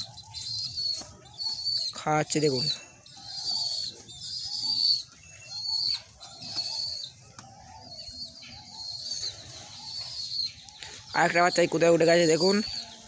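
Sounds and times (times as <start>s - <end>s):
pigeon squab squeaking: 0.0s - 13.0s.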